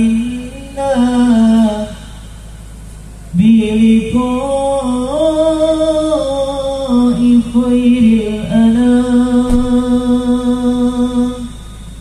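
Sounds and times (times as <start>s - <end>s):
man singing devotional chant: 0.0s - 2.3s, 3.3s - 11.7s.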